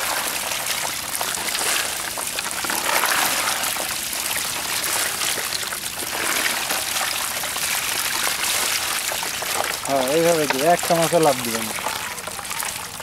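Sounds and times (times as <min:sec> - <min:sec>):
small fish flapping: 0:00.0 - 0:13.0
water splashing and trickling: 0:00.0 - 0:13.0.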